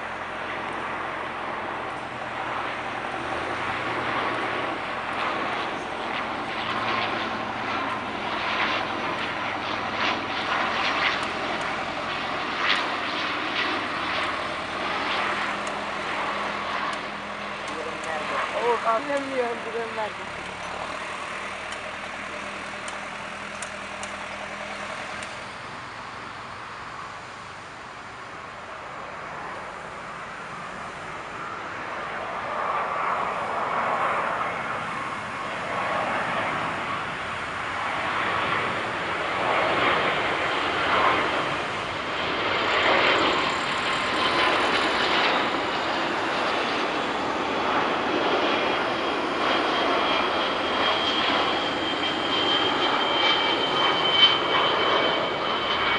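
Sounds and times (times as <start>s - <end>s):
high jet whine: 0.0s - 55.9s
jet engines rushing: 0.0s - 55.9s.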